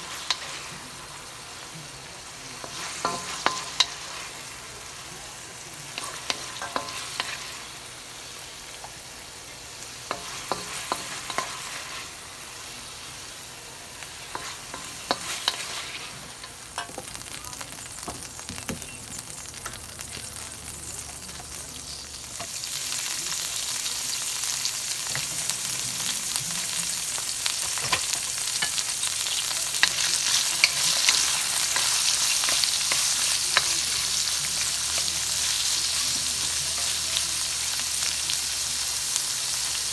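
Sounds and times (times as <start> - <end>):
oil sizzling: 0.0 - 39.9.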